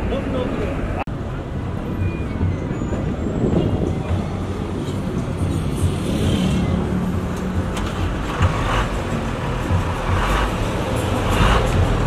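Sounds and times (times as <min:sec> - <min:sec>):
road roller diesel engine rumbling: 0:00.0 - 0:12.0.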